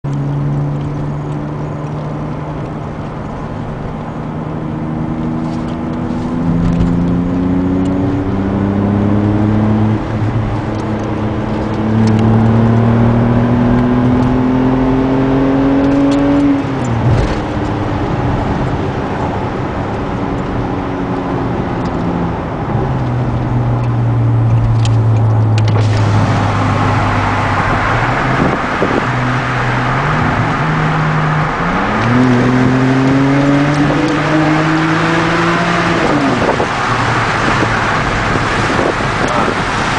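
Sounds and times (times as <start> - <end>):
wind and road noise: 0.0 - 39.9
car engine accelerating with upshifts: 0.1 - 39.9.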